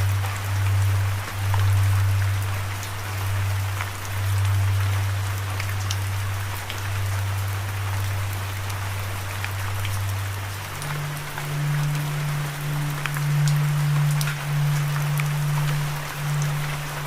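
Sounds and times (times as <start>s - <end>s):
low hum: 0.0s - 17.0s
steady rain: 0.0s - 17.0s.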